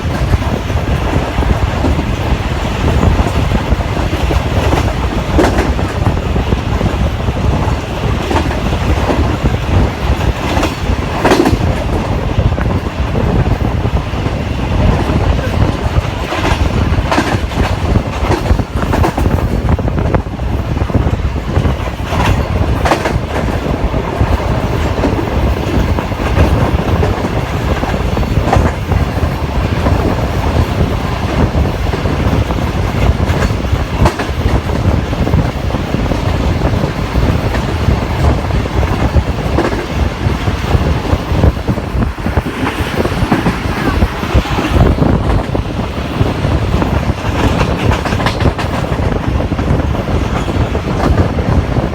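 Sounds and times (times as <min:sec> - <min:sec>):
wheels clicking over rail joints: 0:00.0 - 0:14.0, 0:14.8 - 0:51.9
train rumbling on rails: 0:00.0 - 0:51.9.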